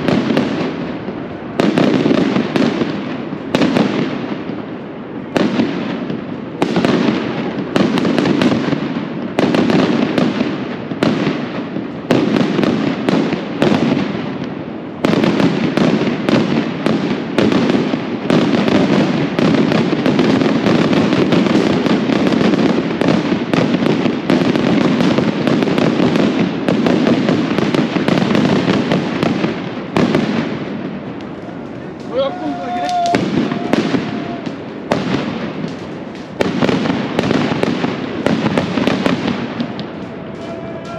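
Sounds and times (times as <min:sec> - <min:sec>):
firecrackers exploding: 0:00.0 - 0:40.9.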